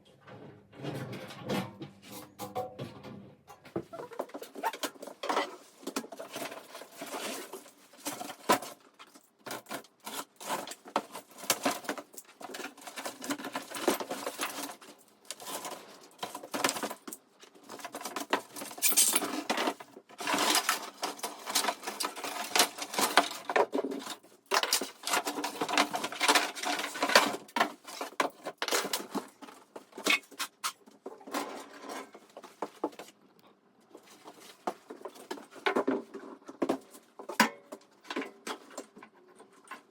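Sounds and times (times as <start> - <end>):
parts and packaging rustling: 1.6 - 39.9.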